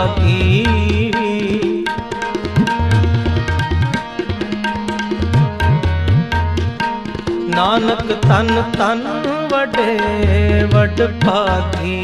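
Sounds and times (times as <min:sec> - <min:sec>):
sustained harmonium notes: 0:00.0 - 0:12.0
tabla playing a steady rhythm: 0:00.0 - 0:12.0.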